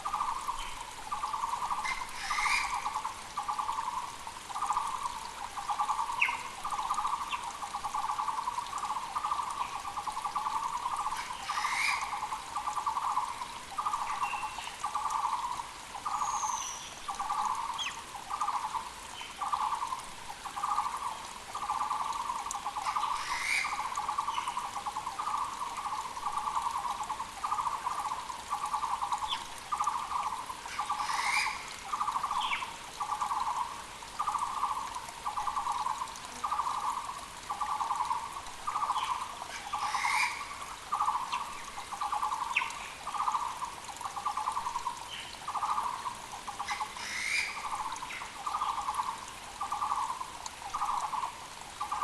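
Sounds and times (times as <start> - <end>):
creek hissing: 0.0 - 52.0.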